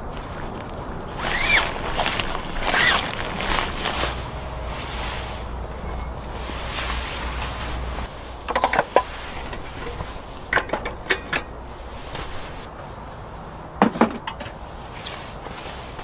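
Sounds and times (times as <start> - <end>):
low wind-like rumble: 0.0 - 16.0.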